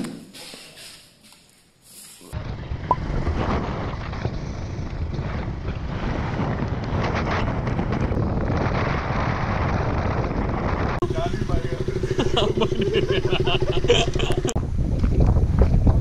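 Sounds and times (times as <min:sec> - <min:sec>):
low motorcycle engine rumble: 0:02.4 - 0:16.0
wind rush on microphone: 0:02.4 - 0:16.0.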